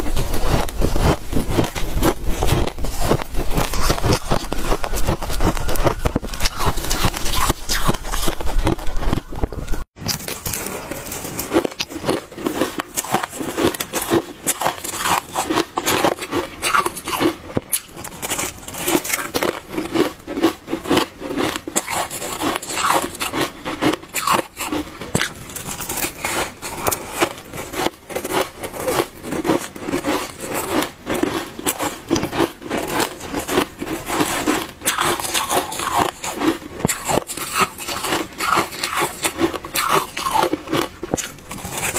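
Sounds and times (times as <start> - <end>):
crunching frost in mouth: 0.0 - 41.9.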